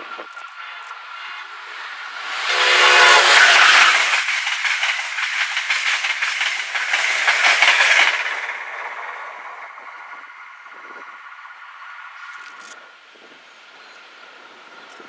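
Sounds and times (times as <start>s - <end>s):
electric train passing at speed: 0.0s - 14.6s.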